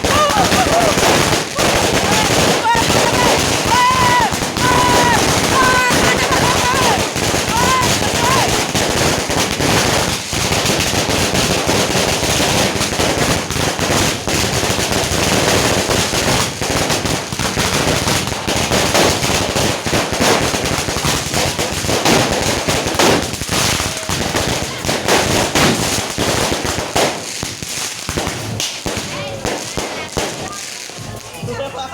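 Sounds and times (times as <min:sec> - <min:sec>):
firecrackers popping: 0:00.0 - 0:31.9.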